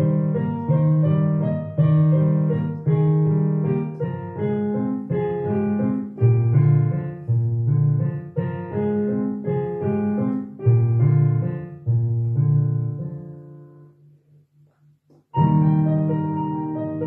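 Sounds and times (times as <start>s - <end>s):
digital piano playing: 0.0s - 14.0s, 15.4s - 17.0s.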